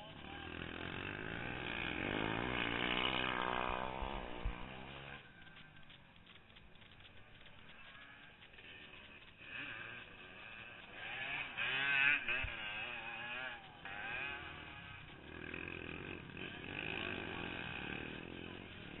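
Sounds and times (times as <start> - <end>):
three-wheeler engine revving: 0.0 - 19.0.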